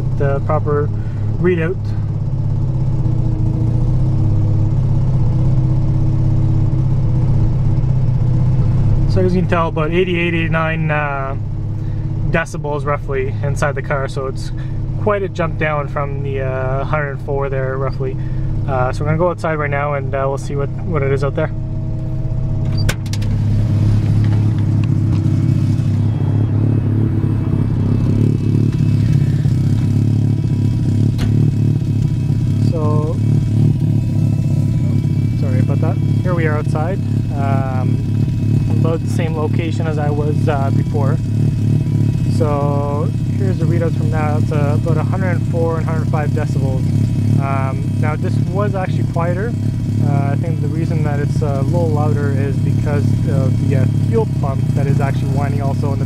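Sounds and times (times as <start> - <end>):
engine droning from inside car: 0.0 - 56.0.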